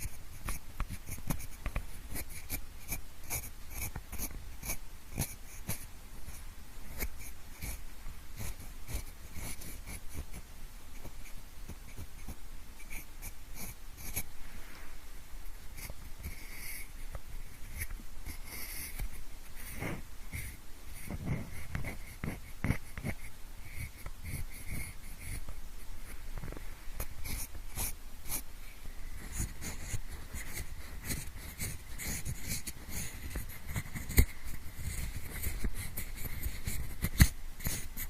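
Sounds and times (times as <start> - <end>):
pencil scratches and clicks: 0.0 - 14.3, 15.8 - 28.5, 29.2 - 38.0.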